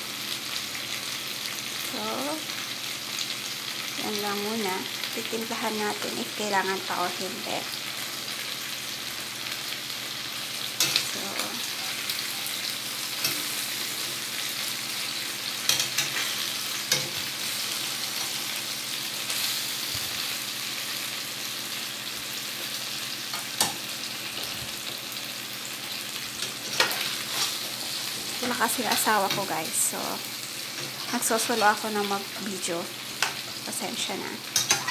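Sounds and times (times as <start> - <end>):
chicken sizzling in oil: 0.0 - 34.9.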